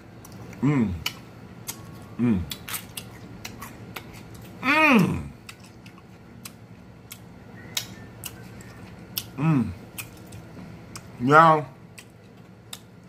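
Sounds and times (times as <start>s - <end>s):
crunchy chewing: 0.0s - 11.2s.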